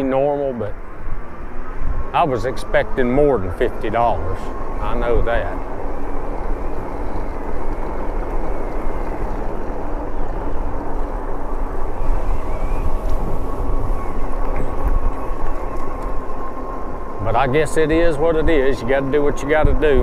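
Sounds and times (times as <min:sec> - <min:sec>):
faint steady whine: 0:00.0 - 0:20.0
wind buffeting microphone: 0:00.0 - 0:20.0.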